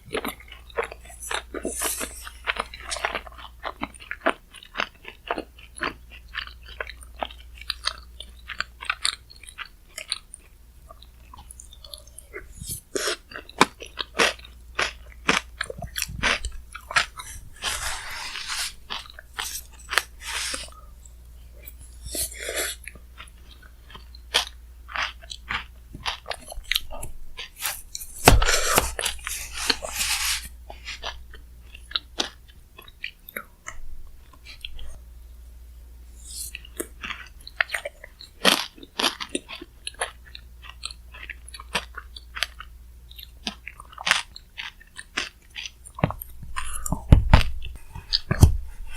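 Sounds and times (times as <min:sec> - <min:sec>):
mouth chewing and crunching: 0:00.0 - 0:35.1, 0:36.1 - 0:48.9.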